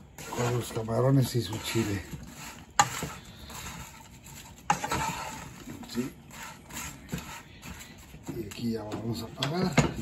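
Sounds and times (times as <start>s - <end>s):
spatula scraping and clattering: 0.0s - 10.0s.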